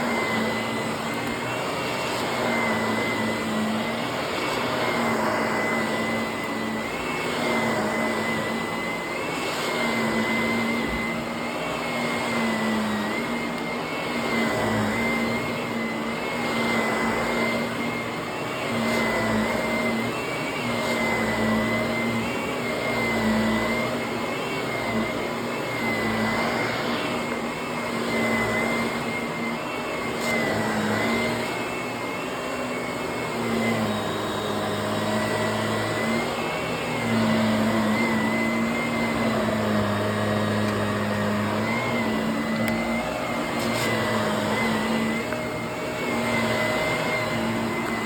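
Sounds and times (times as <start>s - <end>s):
vacuum cleaner on carpet: 0.0s - 48.0s.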